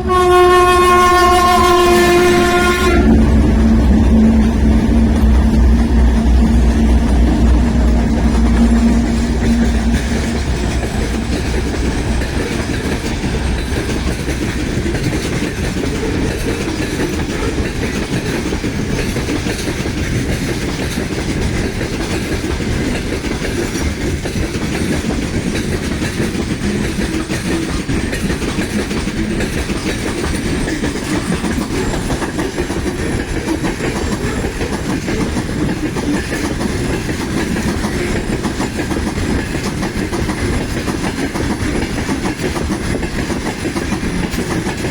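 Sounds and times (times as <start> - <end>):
freight train rolling past: 0.0 - 44.9
wheels clicking over rail joints: 0.6 - 44.9.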